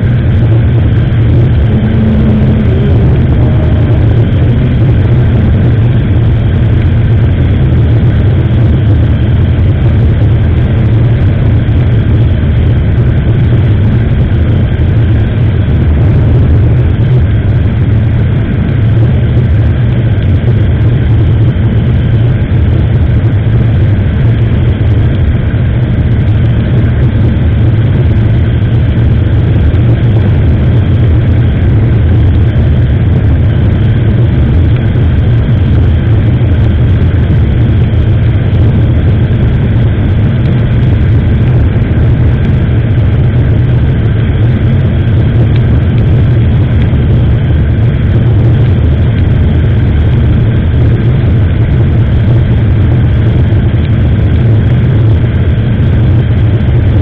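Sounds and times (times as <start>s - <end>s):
motorcycle engine running: 0.0s - 53.4s
wind on the microphone: 0.0s - 57.0s.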